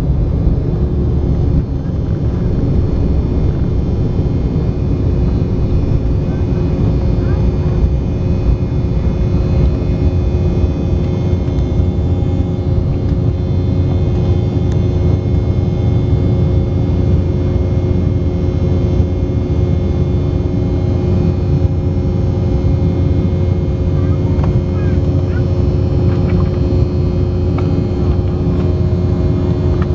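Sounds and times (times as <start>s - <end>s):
jet engine whine: 0.0s - 29.9s
jet engines rumbling in cabin: 0.0s - 29.9s.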